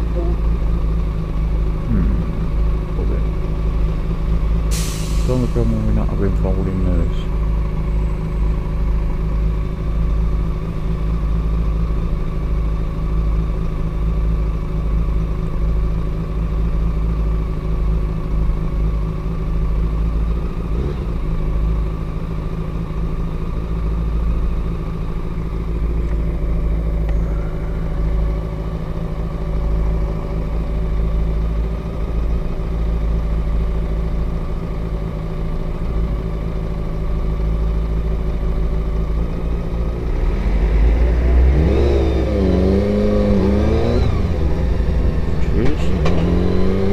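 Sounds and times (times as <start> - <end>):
deep rumble: 0.0 - 15.6, 18.7 - 46.9
bus idling: 0.0 - 40.8, 43.3 - 46.8.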